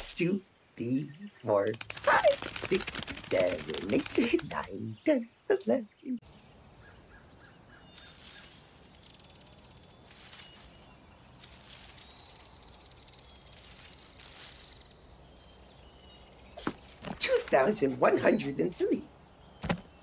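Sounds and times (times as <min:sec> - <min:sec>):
light breeze through leaves: 0:00.0 - 0:20.0
faint bird chirps: 0:00.3 - 0:20.0.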